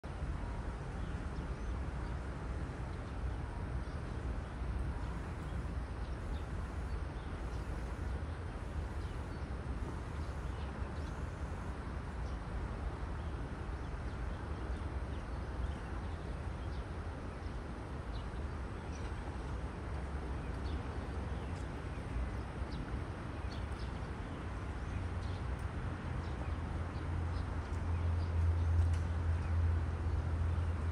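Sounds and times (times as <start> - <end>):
steady low rumble: 0.0 - 28.8.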